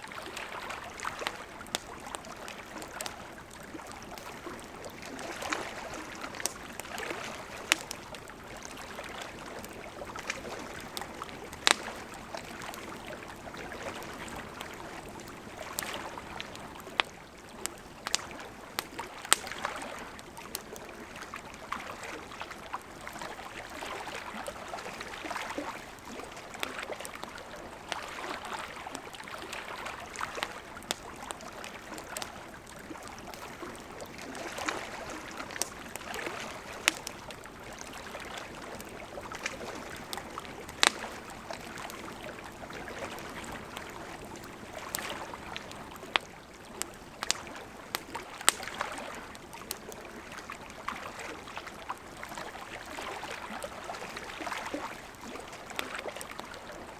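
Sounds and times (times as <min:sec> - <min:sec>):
campfire crackling: 0:00.0 - 0:56.9
river water flowing: 0:00.0 - 0:56.9.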